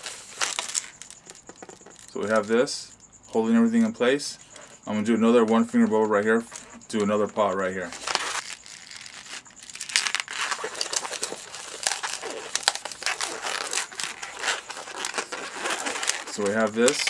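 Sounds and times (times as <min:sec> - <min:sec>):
latex balloons crinkling: 0:00.0 - 0:02.8, 0:03.7 - 0:17.0.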